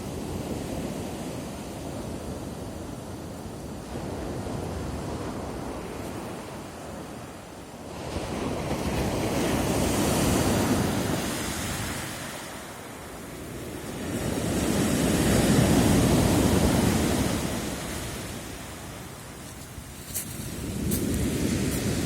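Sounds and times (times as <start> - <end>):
sea waves washing in: 0.0 - 22.0.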